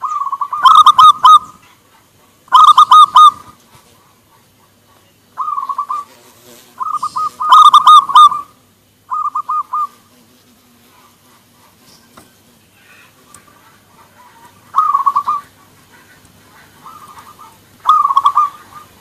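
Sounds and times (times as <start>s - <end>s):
doves cooing: 0.0s - 19.0s.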